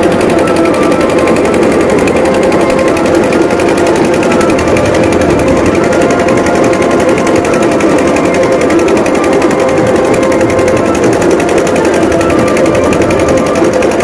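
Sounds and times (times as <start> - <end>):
fast drum roll: 0.0 - 14.0.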